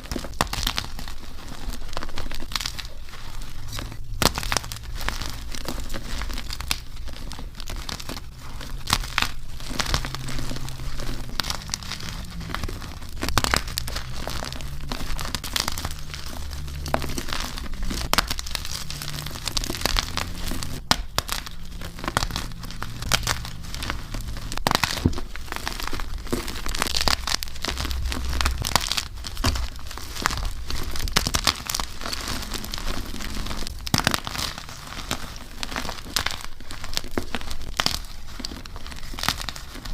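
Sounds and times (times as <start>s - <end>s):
chalk blocks crunching: 0.0s - 39.9s.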